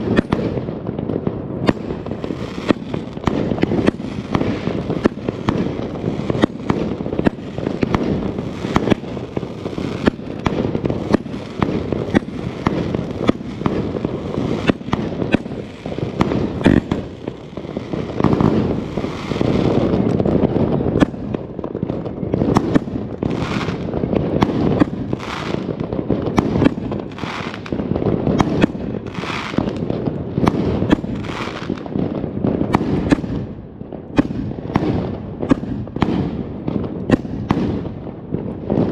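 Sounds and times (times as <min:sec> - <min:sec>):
firework battery bangs and crackle: 0:00.0 - 0:38.9.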